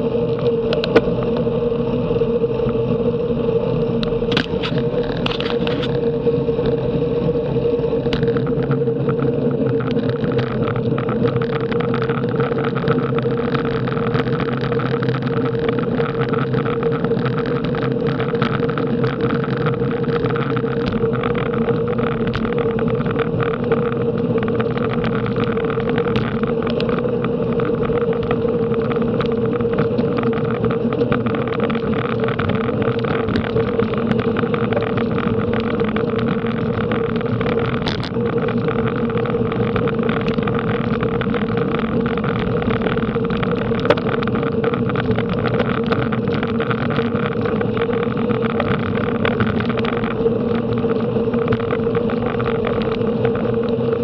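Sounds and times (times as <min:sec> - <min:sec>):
mid-pitched hum: 0:00.0 - 0:54.0
road noise: 0:00.0 - 0:54.0.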